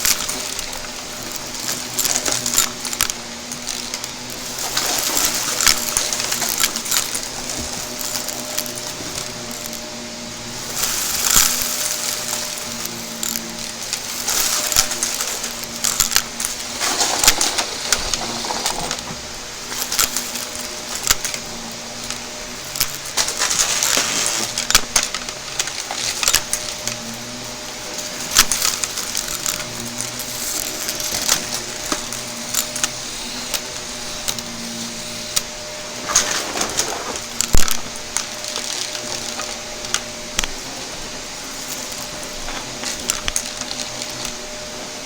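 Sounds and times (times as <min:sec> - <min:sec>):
debris clicking in vacuum: 0:00.0 - 0:45.0
vacuum cleaner motor hum: 0:00.0 - 0:45.0.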